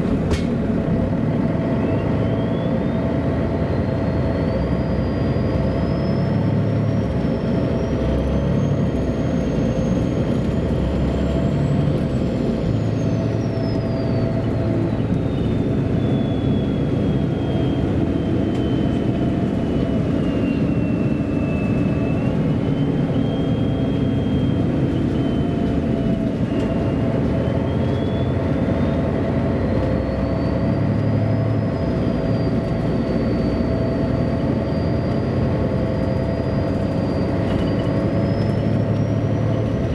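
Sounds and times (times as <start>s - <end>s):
bus diesel engine rumble: 0.0s - 39.9s.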